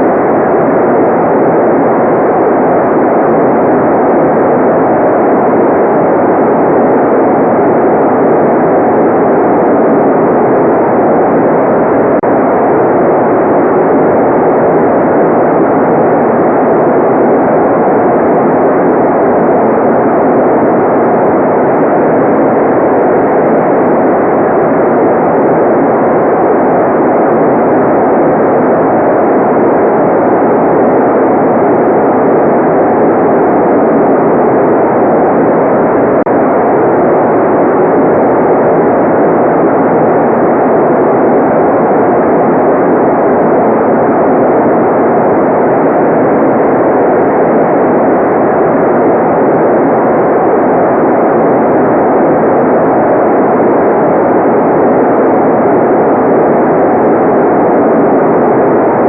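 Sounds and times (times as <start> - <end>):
muffled white noise: 0.0 - 59.0.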